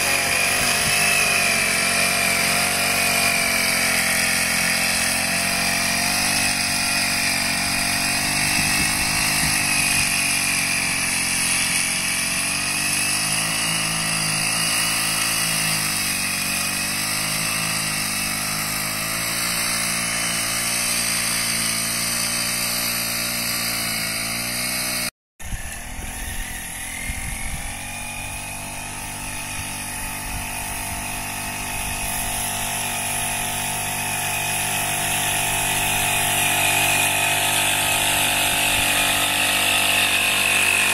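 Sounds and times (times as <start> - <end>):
small engine buzzing: 0.0 - 40.9.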